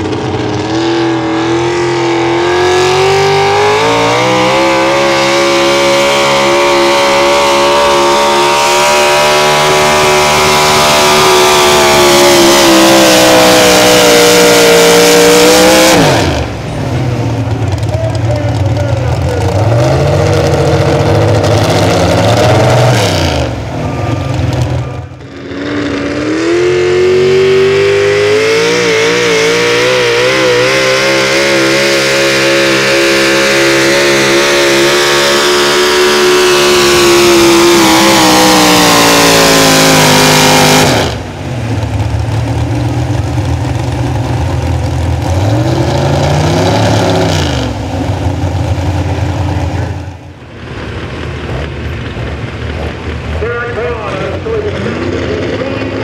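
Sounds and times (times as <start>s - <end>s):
truck engine at full throttle: 0.0s - 56.0s
truck engine idling and revving: 0.0s - 56.0s.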